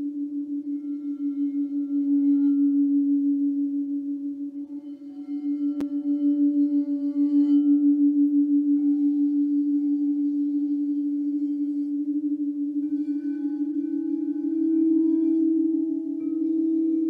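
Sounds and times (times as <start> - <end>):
singing bowls ringing: 0.0 - 17.0.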